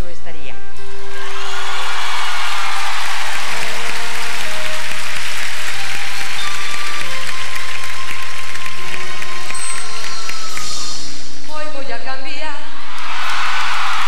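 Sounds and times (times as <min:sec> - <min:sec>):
audience applause: 0:00.9 - 0:11.1, 0:12.9 - 0:14.0.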